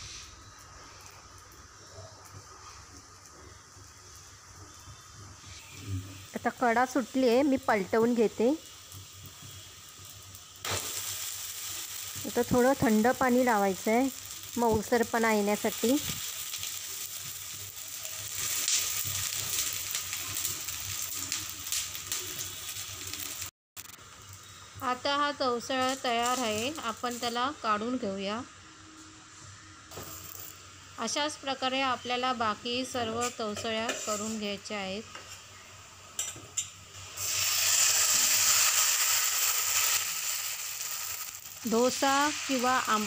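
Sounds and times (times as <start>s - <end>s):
pancake sizzling on griddle: 0.0s - 27.7s, 29.5s - 32.0s, 33.1s - 43.0s.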